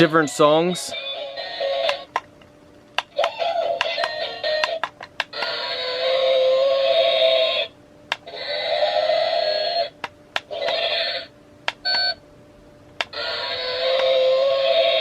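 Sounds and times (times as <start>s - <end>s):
toy speaker playing electronic songs: 0.9s - 2.2s, 3.0s - 12.2s, 13.0s - 15.0s.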